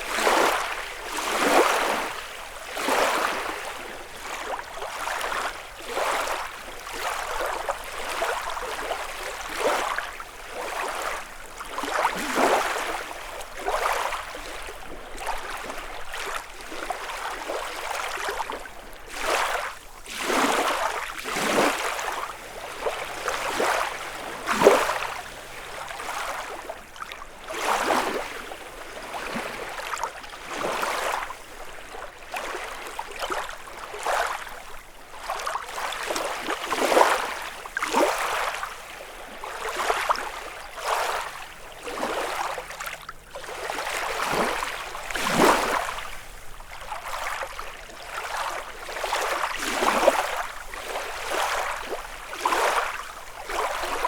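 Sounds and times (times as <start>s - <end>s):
waves lapping on shore: 0.0s - 54.0s.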